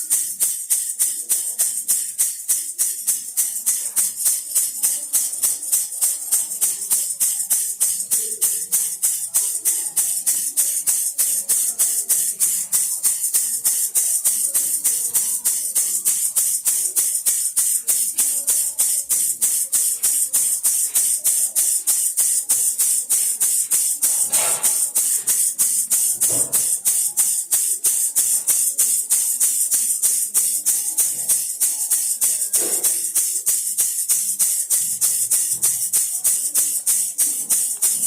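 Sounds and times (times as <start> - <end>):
baby rattle shaken: 0.0 - 38.0.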